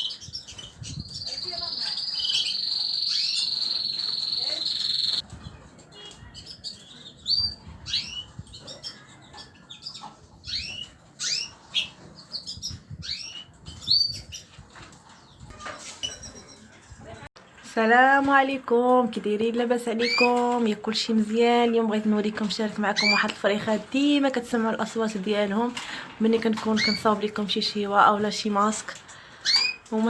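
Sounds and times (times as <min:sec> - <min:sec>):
small birds chirping: 0:00.0 - 0:17.2, 0:19.4 - 0:30.0.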